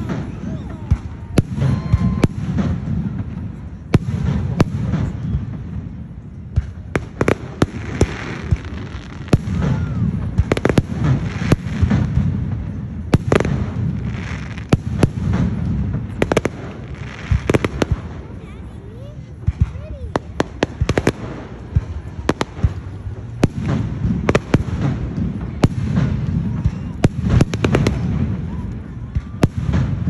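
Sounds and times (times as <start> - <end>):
continuous low rumble: 0.0 - 30.0
fireworks bursting with sharp bangs: 0.0 - 30.0.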